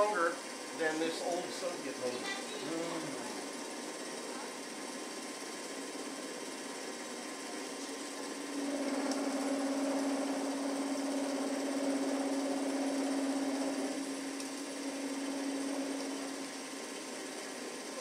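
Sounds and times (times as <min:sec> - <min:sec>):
metal lathe motor humming: 0:00.0 - 0:18.0.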